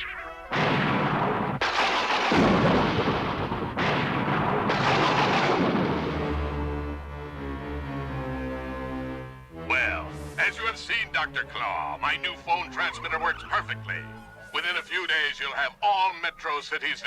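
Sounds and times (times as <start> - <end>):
low music tones: 2.4 - 16.6.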